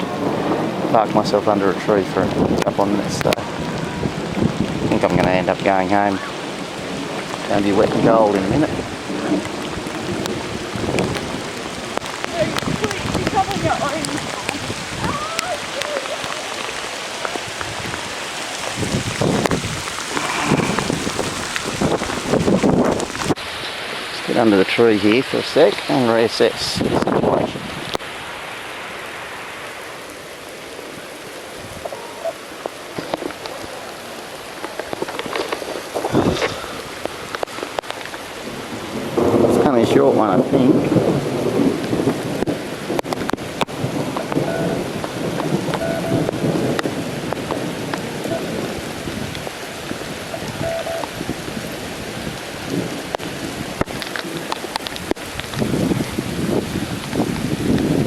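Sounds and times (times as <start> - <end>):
raindrops ticking close by: 0.0 - 58.0
steady rain: 0.0 - 58.0.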